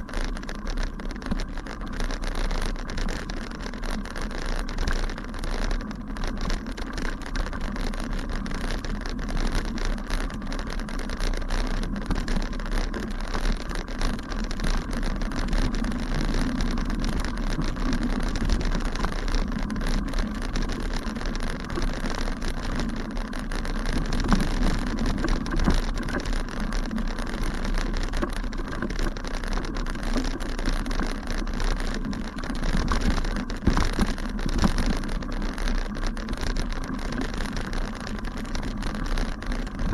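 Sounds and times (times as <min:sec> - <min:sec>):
bicycle tyres rumbling on grass: 0:00.0 - 0:39.9
bike rattling: 0:00.0 - 0:39.9.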